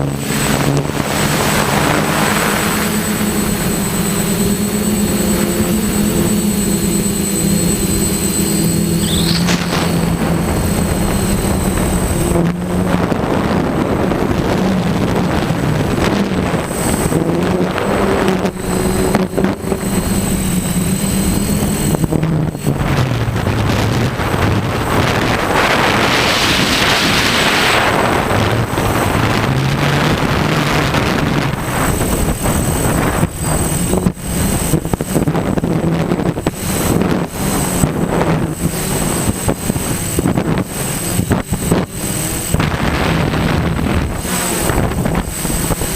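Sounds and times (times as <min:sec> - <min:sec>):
drone propellers humming: 0:00.0 - 0:45.9
wind buffeting microphone: 0:00.0 - 0:45.9.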